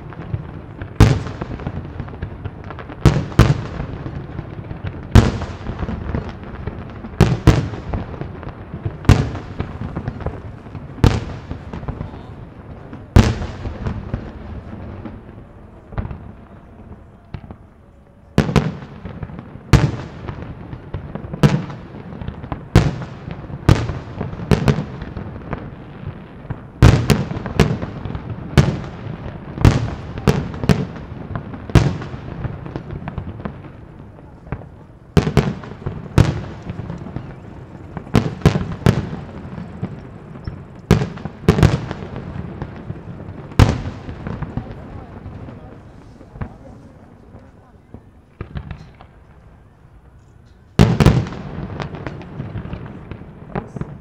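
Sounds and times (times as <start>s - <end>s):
distant firework bursts with echo: 0.0s - 54.0s.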